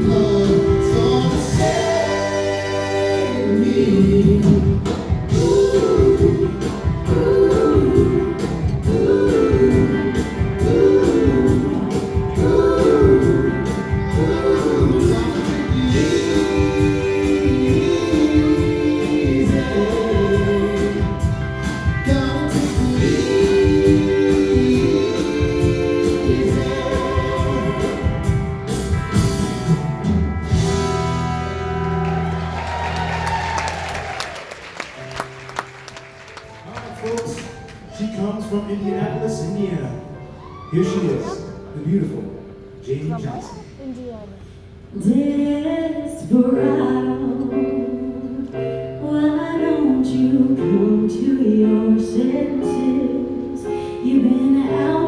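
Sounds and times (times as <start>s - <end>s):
wordless vocal harmonies: 0.0s - 29.8s, 36.7s - 55.0s
live band music: 0.0s - 44.8s.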